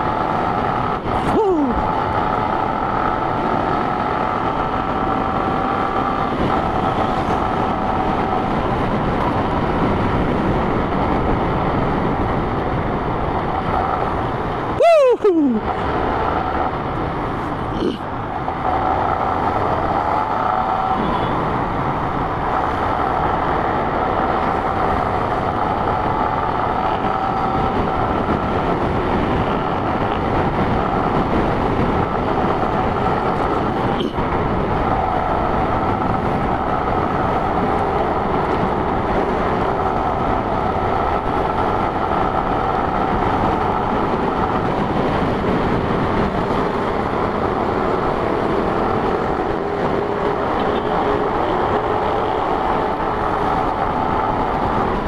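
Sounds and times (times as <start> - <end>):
motorcycle engine riding: 0.0 - 55.0
wind rush on microphone: 0.0 - 55.0.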